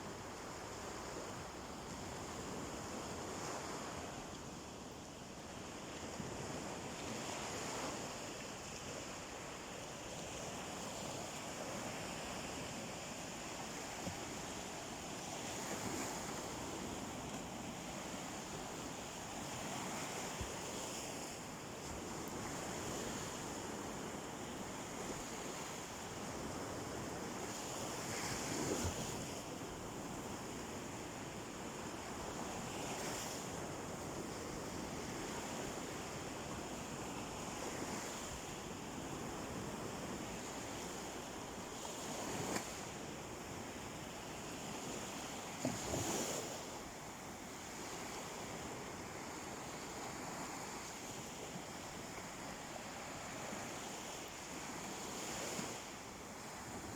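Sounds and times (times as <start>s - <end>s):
waves washing onto beach: 0.0s - 56.9s.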